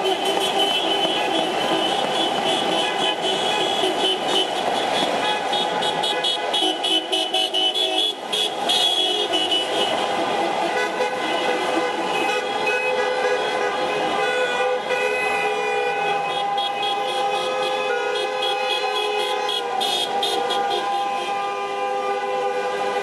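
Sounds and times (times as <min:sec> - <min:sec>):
many car horns honking: 0:00.0 - 0:23.0.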